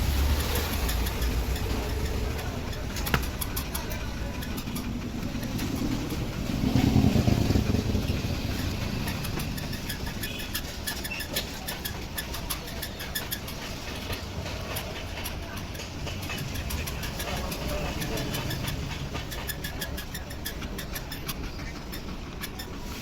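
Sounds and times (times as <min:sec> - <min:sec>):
sharp ticks: 0:00.0 - 0:22.9
small petrol engine idling: 0:00.0 - 0:23.0.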